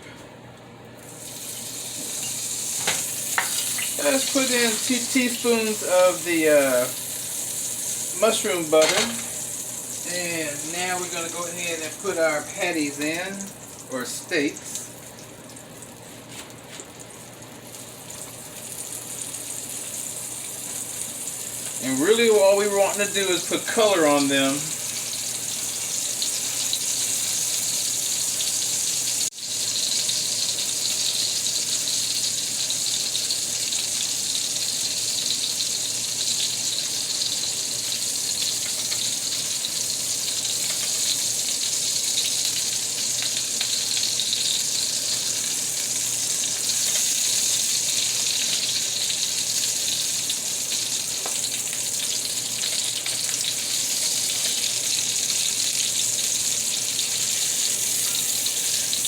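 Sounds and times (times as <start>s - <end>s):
meat patties sizzling in a pan: 1.0s - 59.0s.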